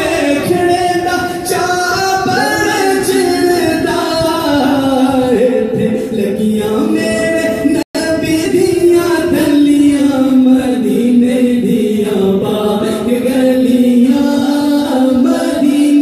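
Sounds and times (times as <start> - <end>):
unaccompanied devotional chanting: 0.0 - 16.0.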